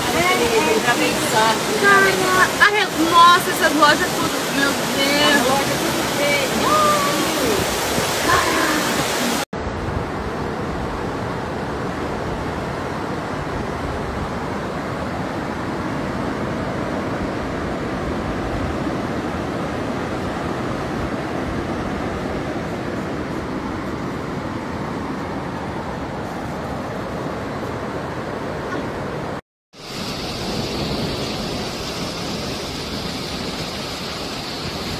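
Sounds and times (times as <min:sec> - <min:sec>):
floodwater rushing: 0:00.0 - 0:34.9.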